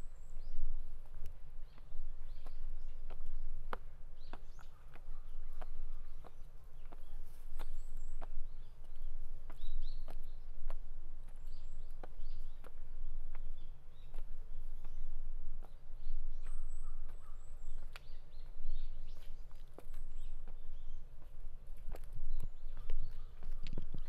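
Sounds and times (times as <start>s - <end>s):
footsteps on hard path: 0.0s - 24.0s
small birds chirping: 0.0s - 24.0s.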